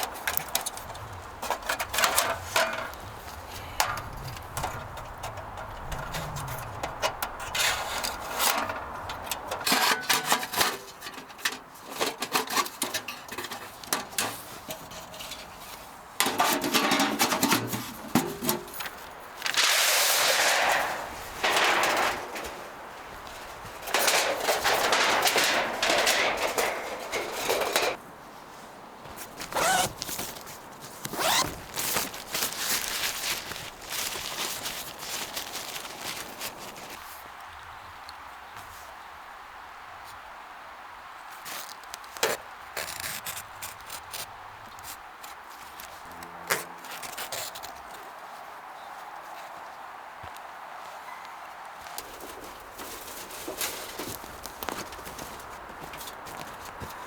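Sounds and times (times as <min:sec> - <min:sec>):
camp gear rubbing and scraping: 0:00.0 - 0:37.2, 0:41.5 - 0:48.1, 0:51.8 - 0:57.0.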